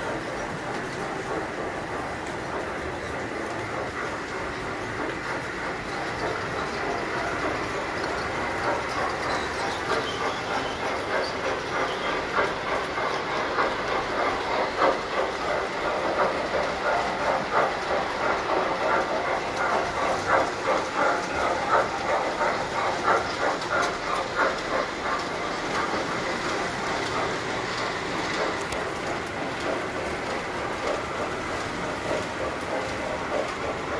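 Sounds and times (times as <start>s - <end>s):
model train motors whirring: 0.0s - 33.9s
wheels clicking over rail joints: 0.0s - 33.9s.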